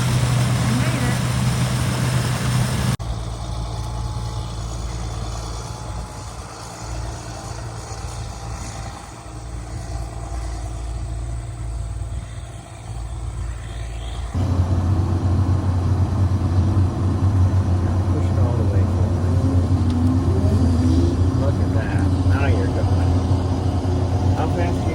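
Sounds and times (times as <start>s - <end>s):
combine harvester engine droning: 0.0s - 24.9s.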